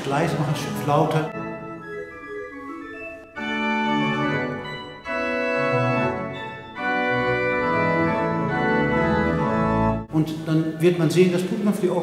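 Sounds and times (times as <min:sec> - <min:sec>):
pipe organ chords: 0:00.0 - 0:10.8.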